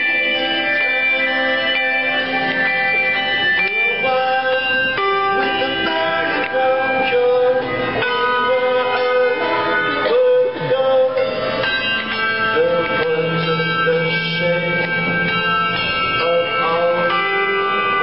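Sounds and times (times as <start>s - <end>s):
handbells ringing in chords: 0.0s - 18.0s
man singing: 3.5s - 18.0s.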